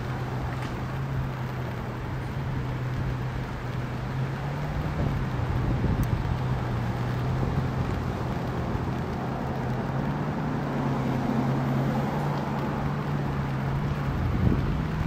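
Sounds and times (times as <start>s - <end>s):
engine humming at low speed: 0.0s - 15.0s.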